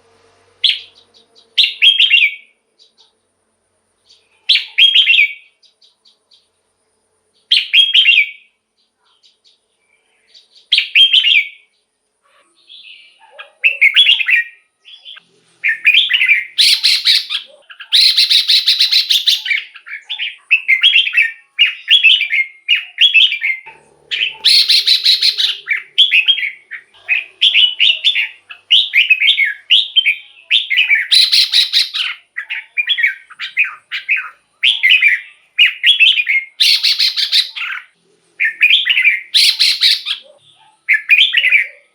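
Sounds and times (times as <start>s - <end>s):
bird whistled song phrases: 0.6s - 3.0s, 4.1s - 6.2s, 7.5s - 8.5s, 10.0s - 11.7s, 12.6s - 41.9s
noisy bird calls: 0.6s - 3.2s, 4.1s - 6.4s, 10.3s - 41.9s.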